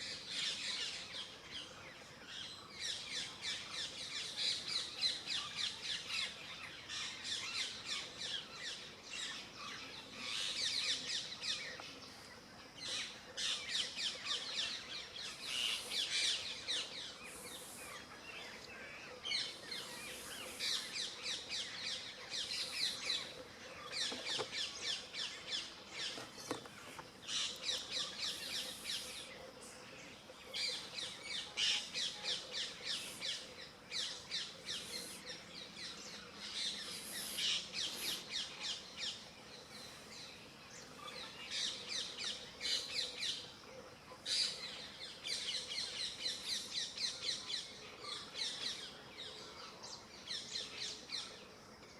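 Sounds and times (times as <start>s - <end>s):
birds chirping and twittering: 0.0s - 51.9s.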